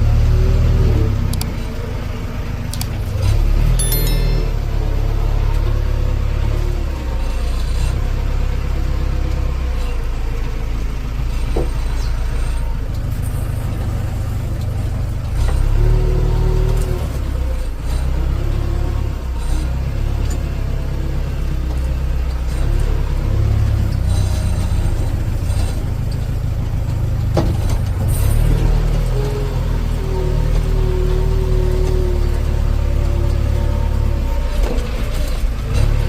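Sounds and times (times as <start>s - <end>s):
diesel machinery running under load: 4.8s - 36.0s.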